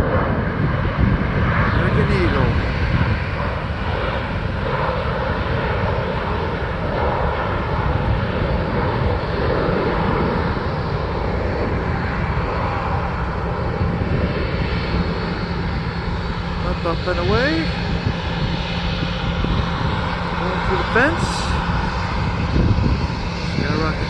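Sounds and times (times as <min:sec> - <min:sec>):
airplane engines at takeoff: 0:00.0 - 0:24.0
faint engine whine: 0:00.0 - 0:24.0.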